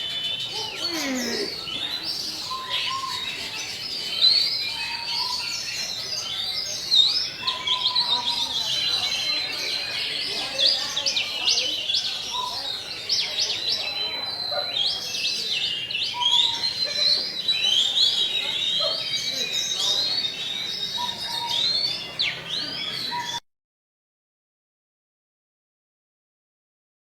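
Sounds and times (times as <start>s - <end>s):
songbird singing: 0.0s - 23.4s.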